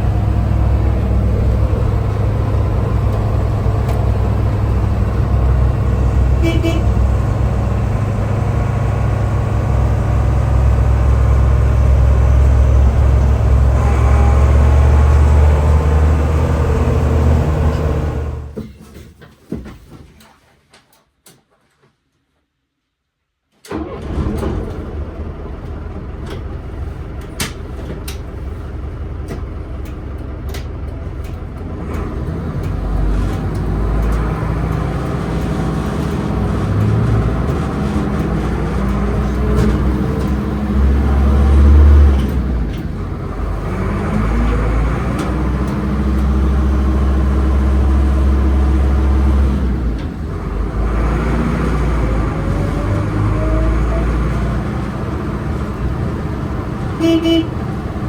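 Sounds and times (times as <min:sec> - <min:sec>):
diesel engine rumbling: 0:00.0 - 0:18.6, 0:23.7 - 0:58.0.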